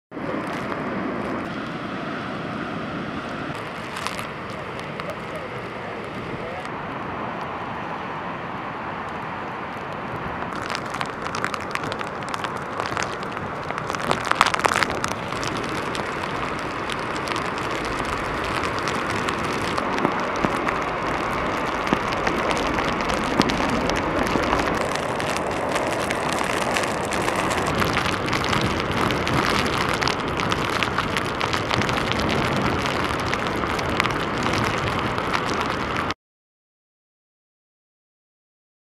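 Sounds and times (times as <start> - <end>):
crackle of rain and spray: 0.1 - 36.2
surf breaking over rocks: 0.1 - 36.2
wind: 0.1 - 36.2.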